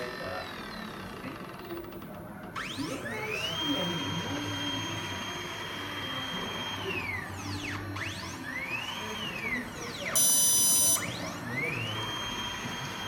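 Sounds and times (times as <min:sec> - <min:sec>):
drive motor whining: 0:00.0 - 0:13.0.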